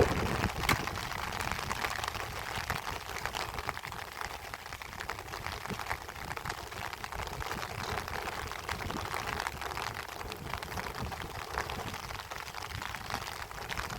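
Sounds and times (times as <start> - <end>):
rain falling: 0.0 - 13.9.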